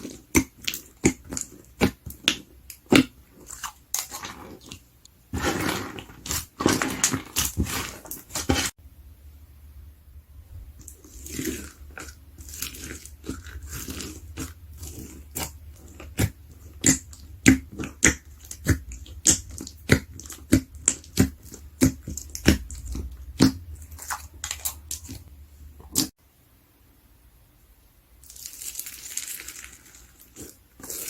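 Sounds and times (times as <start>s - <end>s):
slime squishing: 0.0s - 8.8s, 10.5s - 26.2s, 28.2s - 31.0s.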